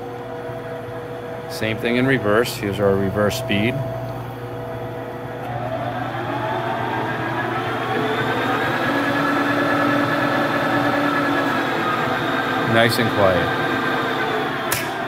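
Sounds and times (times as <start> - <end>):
lathe humming and whining: 0.0 - 15.0.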